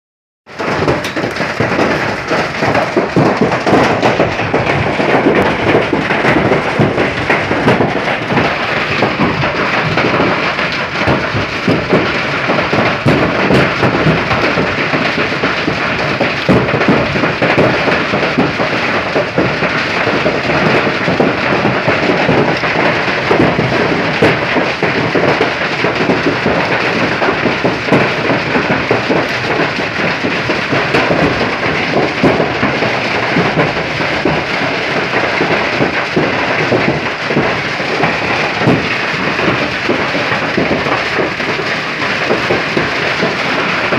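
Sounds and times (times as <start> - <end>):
hail and rain pelting ground: 0.5 - 43.9.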